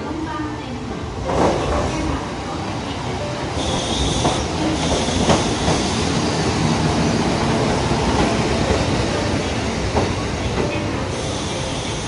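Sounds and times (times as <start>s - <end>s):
diesel railcar engines running: 0.9s - 12.0s.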